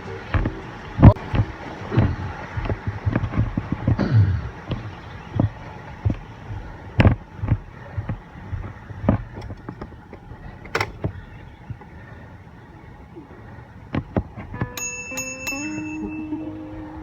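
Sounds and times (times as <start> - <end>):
bicycle riding rumble: 0.0 - 17.0.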